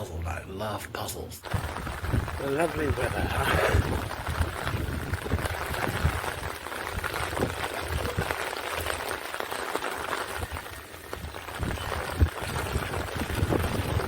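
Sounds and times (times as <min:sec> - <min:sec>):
steady rain falling: 0:01.4 - 0:14.0.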